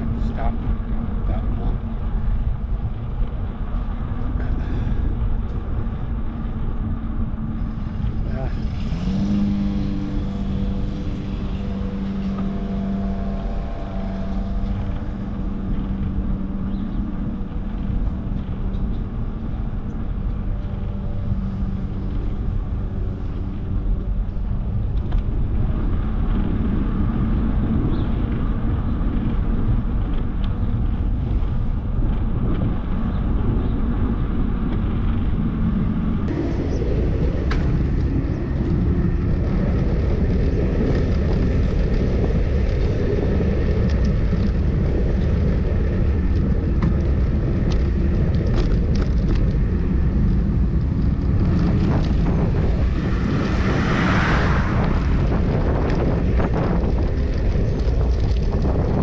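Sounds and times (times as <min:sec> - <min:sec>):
vehicle engine humming: 0:00.0 - 0:59.0
wind and tyre noise: 0:00.0 - 0:59.0.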